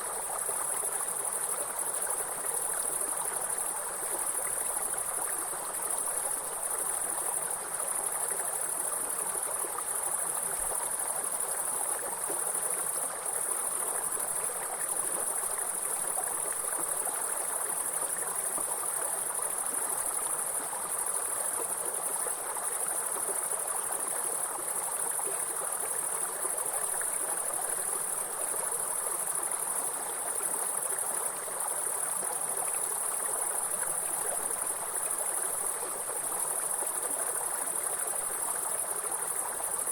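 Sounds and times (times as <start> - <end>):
flowing stream: 0.0 - 39.9
high-pitched insect chorus: 0.0 - 39.9.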